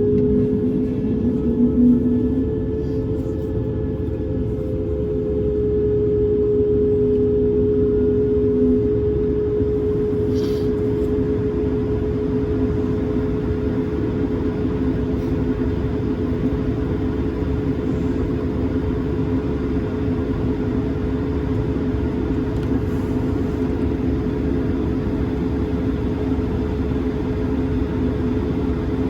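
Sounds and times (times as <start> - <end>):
airliner cabin drone: 0.0 - 29.0
constant humming tones: 0.0 - 29.0.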